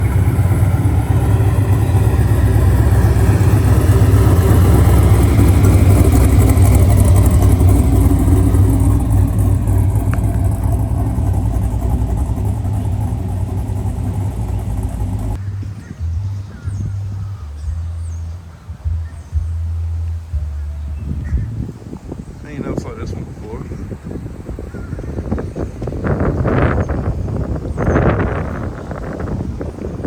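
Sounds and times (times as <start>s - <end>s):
truck engine rumbling: 0.0s - 30.0s.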